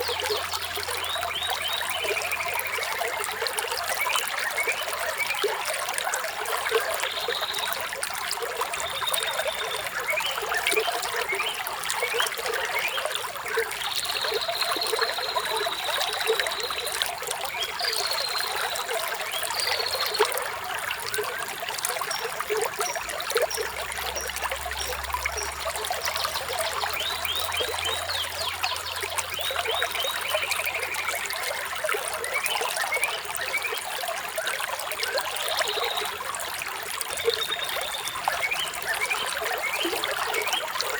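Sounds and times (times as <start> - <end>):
stream trickling and splashing: 0.0 - 40.9.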